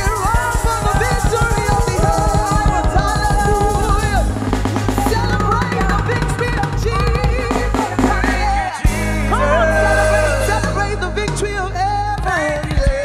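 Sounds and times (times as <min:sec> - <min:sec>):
woman singing: 0:00.0 - 0:04.4, 0:05.0 - 0:13.0
bass line: 0:00.0 - 0:13.0
drum kit rapid strokes: 0:00.0 - 0:13.0.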